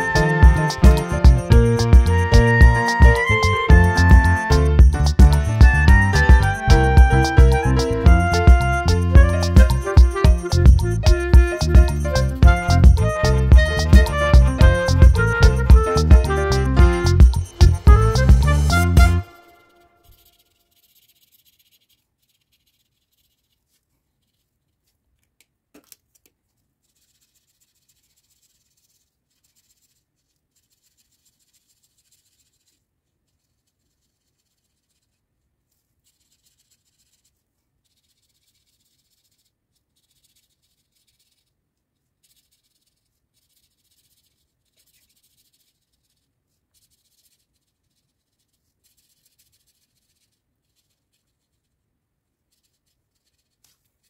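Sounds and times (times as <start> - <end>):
markers scratching on paper: 0.0 - 25.0, 25.9 - 51.8, 52.4 - 54.0.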